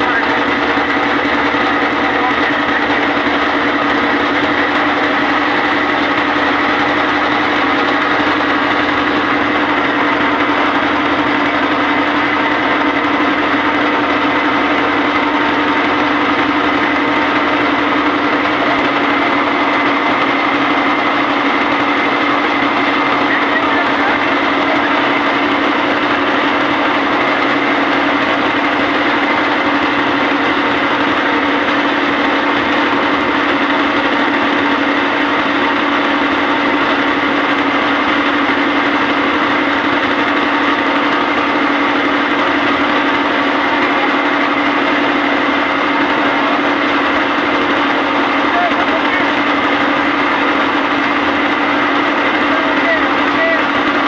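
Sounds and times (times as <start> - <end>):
motorboat engine droning: 0.0 - 54.0.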